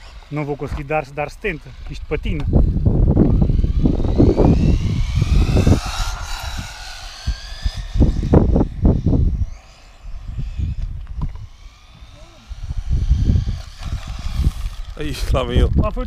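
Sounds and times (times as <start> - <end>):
rc car electric motor whine: 0.0 - 16.0
wind gusts buffeting microphone: 0.0 - 16.0.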